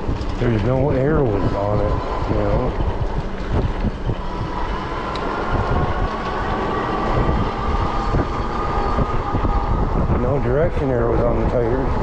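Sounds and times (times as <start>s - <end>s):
rising whine: 0.0s - 12.0s
vehicle rumble: 0.0s - 12.0s.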